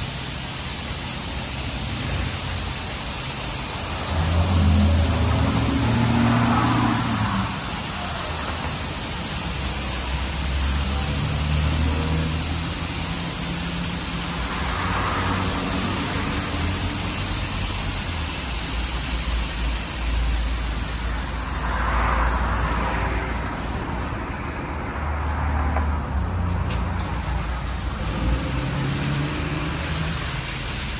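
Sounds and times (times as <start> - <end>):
high-pressure water spraying car: 0.0 - 30.9.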